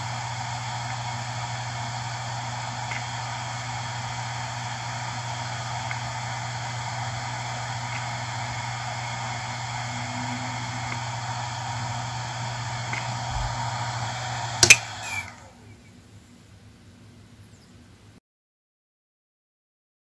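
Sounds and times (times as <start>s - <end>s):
hard drive humming: 0.0s - 17.3s.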